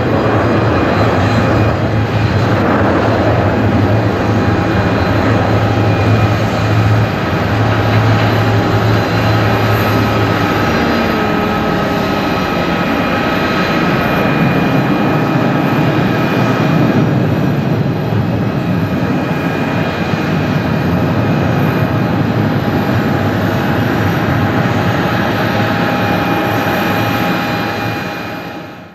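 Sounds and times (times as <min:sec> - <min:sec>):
jet engine whining tones: 0:00.0 - 0:28.9
jet engines roaring: 0:00.0 - 0:28.9.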